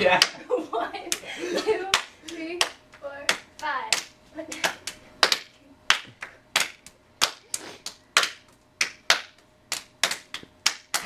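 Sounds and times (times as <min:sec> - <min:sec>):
hand claps: 0:00.0 - 0:00.4, 0:01.1 - 0:01.3, 0:01.9 - 0:11.0.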